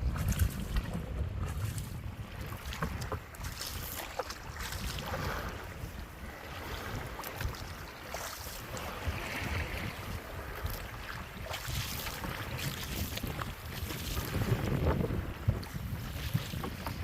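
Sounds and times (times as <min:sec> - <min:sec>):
water splashing and swishing: 0:00.0 - 0:17.0
wind buffeting microphone: 0:00.0 - 0:17.0.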